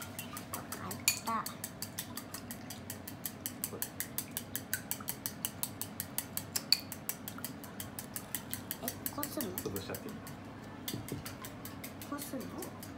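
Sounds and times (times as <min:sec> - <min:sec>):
chopsticks beating egg in bowl: 0:00.0 - 0:12.9.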